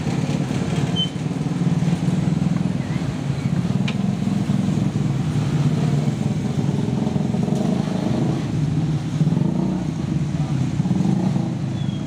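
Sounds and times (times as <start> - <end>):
cars and motorcycles passing: 0.0 - 12.0
steady engine hum: 0.0 - 12.0.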